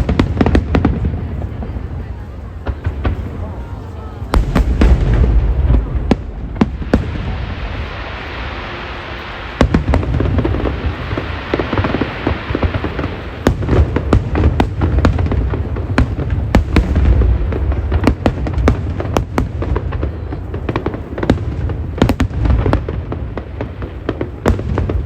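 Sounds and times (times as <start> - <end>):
rapid sharp firework bangs: 0.0 - 2.0, 4.3 - 25.0
fireworks rumble with crackling: 0.0 - 25.0.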